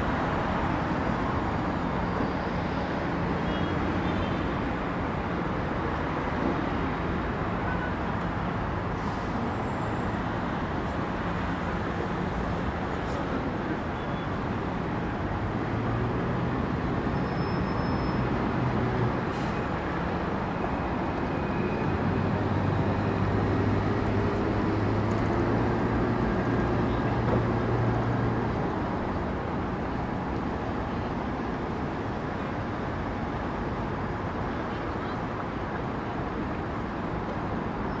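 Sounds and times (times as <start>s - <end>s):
road traffic passing: 0.0s - 38.0s.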